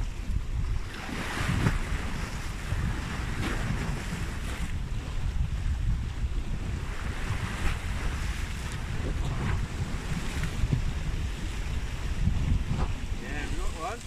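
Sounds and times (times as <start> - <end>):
sea waves on the shore: 0.0 - 14.0
wind buffeting the microphone: 0.0 - 14.0.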